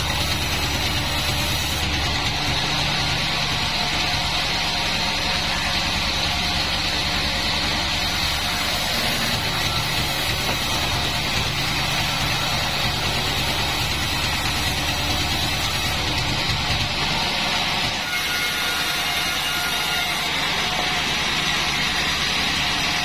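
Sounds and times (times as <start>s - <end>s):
bandsaw engine running: 0.0s - 23.0s.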